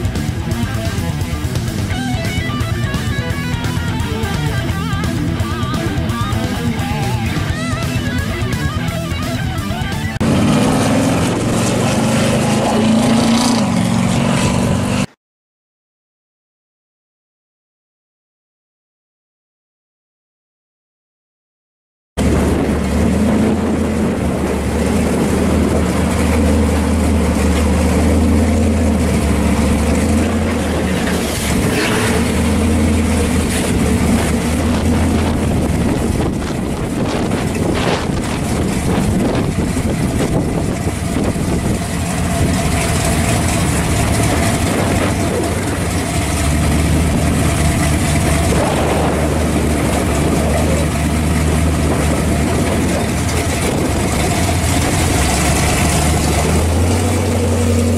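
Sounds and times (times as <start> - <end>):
car engine idling: 0.0 - 12.4, 22.2 - 57.9.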